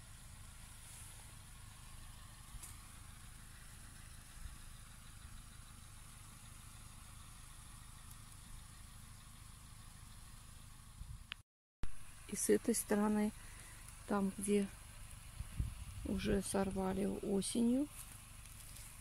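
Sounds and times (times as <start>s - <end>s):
light hiss: 0.0s - 10.8s, 12.0s - 16.4s, 17.9s - 19.0s
faint low rumble: 0.0s - 19.0s.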